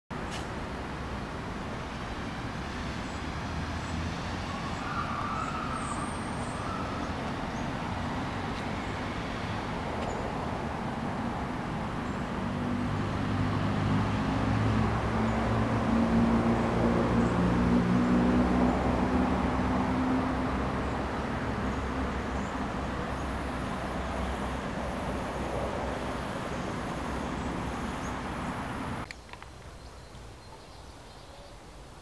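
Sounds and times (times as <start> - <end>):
passing traffic hiss: 0.1 - 32.0
vehicle engine hum: 0.2 - 29.1.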